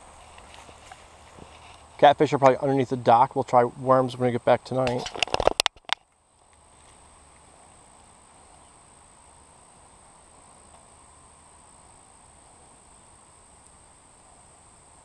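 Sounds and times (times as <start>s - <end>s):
quiet outdoor ambience: 0.0s - 15.0s.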